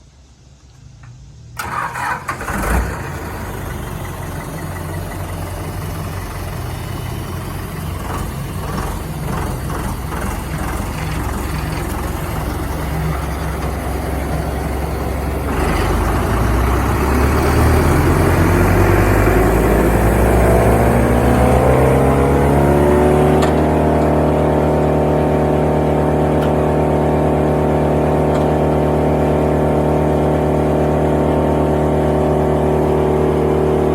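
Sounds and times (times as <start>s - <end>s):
wood chipper engine: 1.6s - 33.9s.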